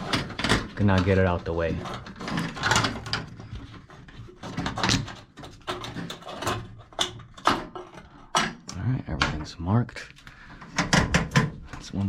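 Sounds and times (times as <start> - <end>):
hands handling wiring and parts: 0.0 - 12.0.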